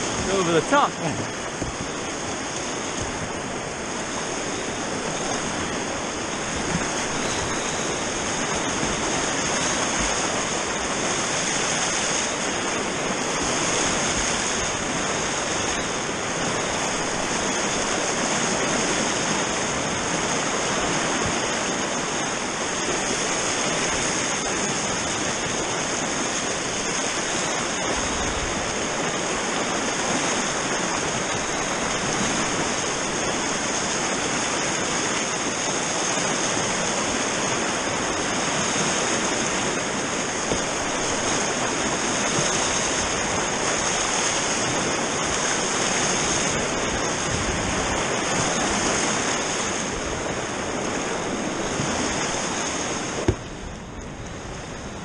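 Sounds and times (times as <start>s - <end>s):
river rapids rushing: 0.0s - 55.0s.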